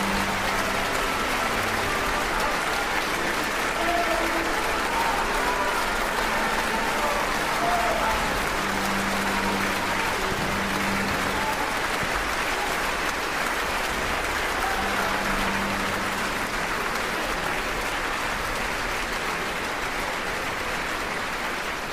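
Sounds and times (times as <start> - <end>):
theatre audience applauding: 0.0 - 21.9.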